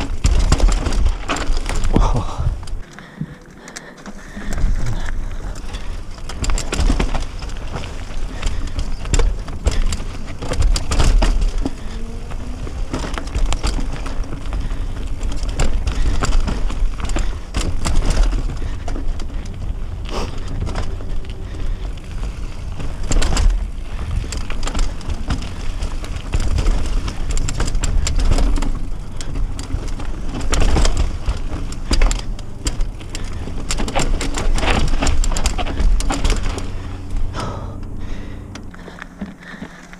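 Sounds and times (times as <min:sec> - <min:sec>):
wind rumble on microphone: 0:00.0 - 0:02.8, 0:04.3 - 0:39.0
bike clattering knocks and rattles: 0:00.0 - 0:39.9.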